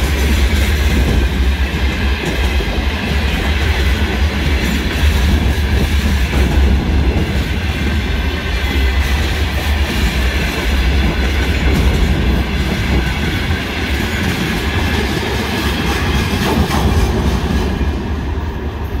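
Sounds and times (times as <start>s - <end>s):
train wheels rumbling on rails: 0.0s - 19.0s
wheels clacking over rail joints: 0.0s - 19.0s.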